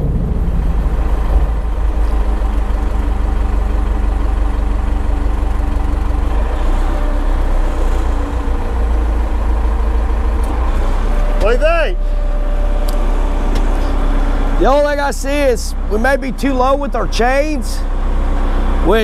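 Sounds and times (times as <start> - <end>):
diesel loader engine running: 0.0 - 19.0.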